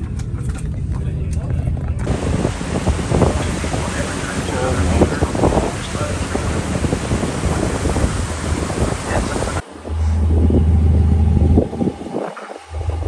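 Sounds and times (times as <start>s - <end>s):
boat engine drone: 2.0s - 13.0s
water noise: 2.0s - 13.0s
wind on microphone: 2.0s - 13.0s.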